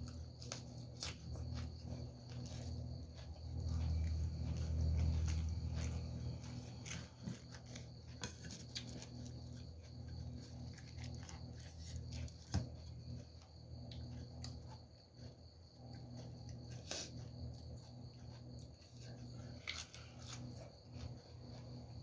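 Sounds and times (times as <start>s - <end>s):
chewing crisp raw vegetables: 0.0s - 22.0s.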